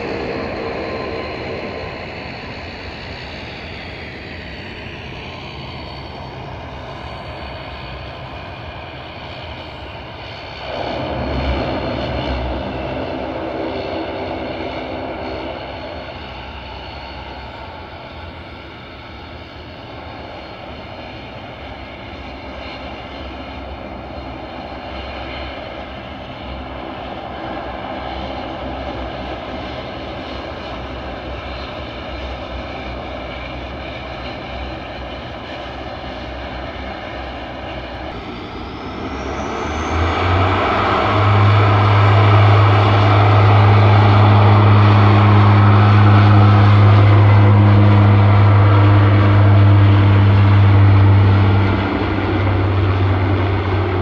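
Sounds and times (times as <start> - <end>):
turboprop engines humming: 0.0 - 54.0.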